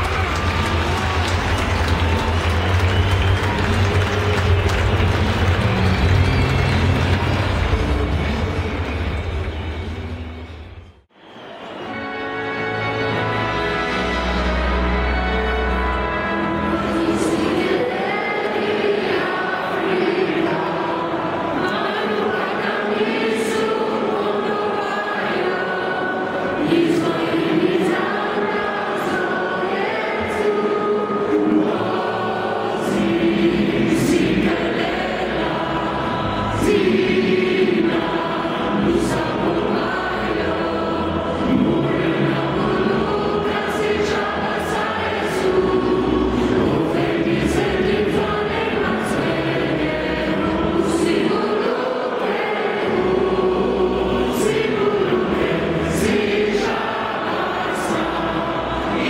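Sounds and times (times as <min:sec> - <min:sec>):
choir singing an anthem: 0:00.0 - 0:59.0.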